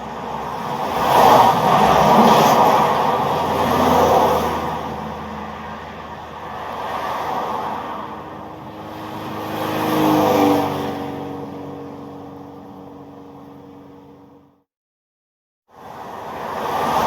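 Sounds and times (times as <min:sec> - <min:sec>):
car driving past: 0:00.0 - 0:14.5.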